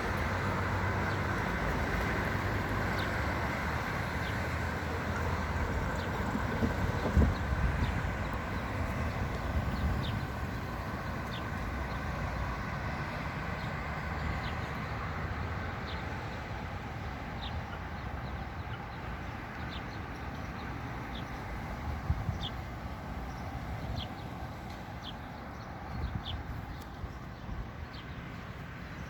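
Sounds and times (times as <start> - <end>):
diesel locomotive rumbling: 0.0 - 29.0.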